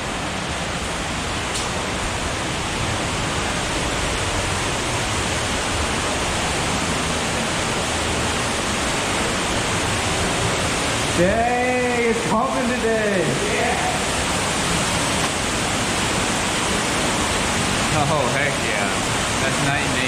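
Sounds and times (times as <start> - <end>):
stream and waterfall rushing: 0.0 - 20.0.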